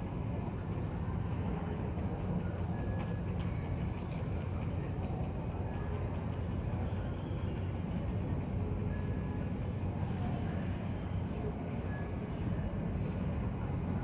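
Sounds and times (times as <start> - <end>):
idling jet aircraft: 0.0 - 14.0.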